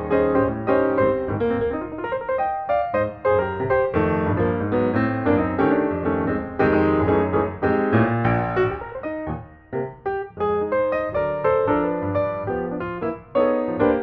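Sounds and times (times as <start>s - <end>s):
solo piano music: 0.0s - 14.0s.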